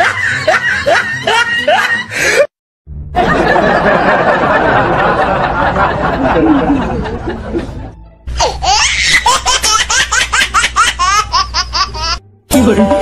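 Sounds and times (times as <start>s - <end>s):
canned laughter: 0.0s - 2.4s, 3.2s - 12.2s.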